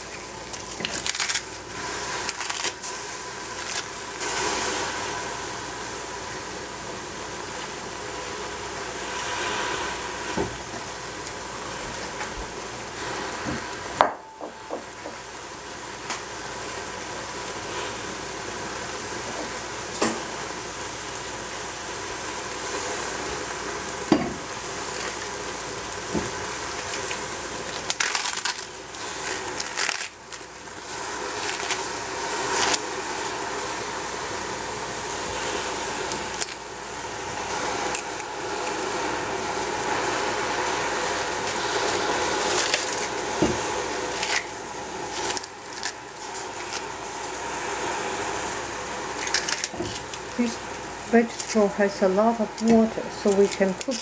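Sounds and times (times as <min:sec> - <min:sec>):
cabbage sizzling in a pot: 0:00.0 - 0:54.0.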